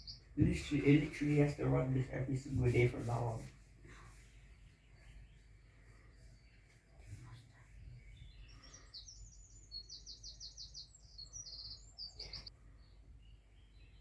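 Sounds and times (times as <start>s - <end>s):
small songbird singing: 0.0s - 2.4s, 4.4s - 14.0s.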